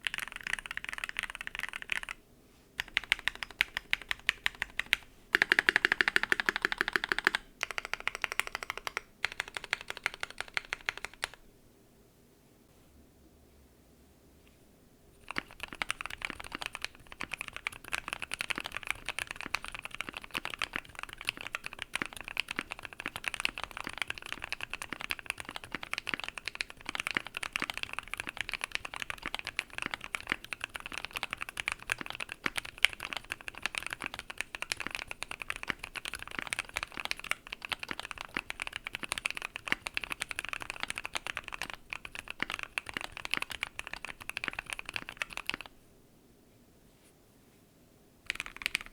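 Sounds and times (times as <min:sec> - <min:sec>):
fast mechanical keyboard typing: 0:00.0 - 0:02.2, 0:02.8 - 0:11.4, 0:15.2 - 0:45.7, 0:48.3 - 0:48.9.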